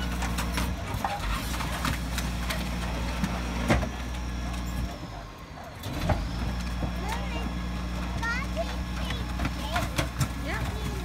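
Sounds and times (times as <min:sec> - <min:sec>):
garbage truck engine idling: 0:00.0 - 0:11.0.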